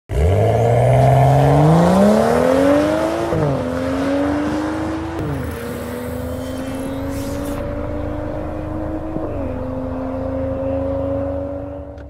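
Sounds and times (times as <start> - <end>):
car exhaust accelerating and shifting: 0.1 - 12.0.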